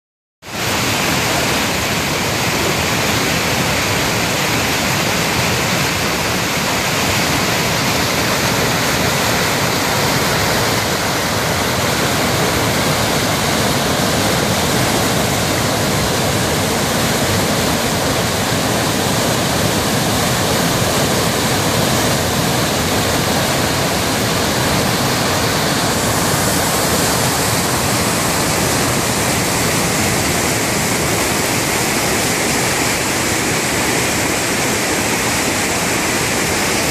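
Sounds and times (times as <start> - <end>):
water rushing over rocks: 0.4 - 36.9.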